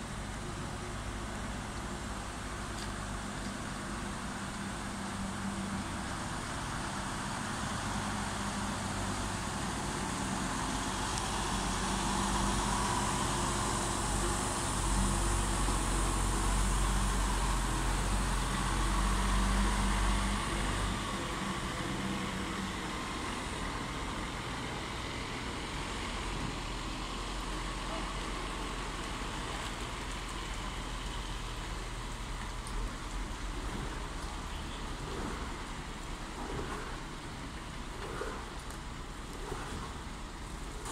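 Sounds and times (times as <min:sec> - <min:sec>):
truck diesel engine rumbling: 0:00.0 - 0:40.9.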